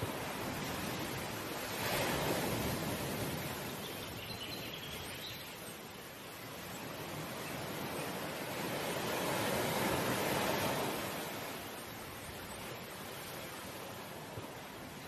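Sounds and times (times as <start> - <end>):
surf-like rushing noise: 0.0 - 15.0.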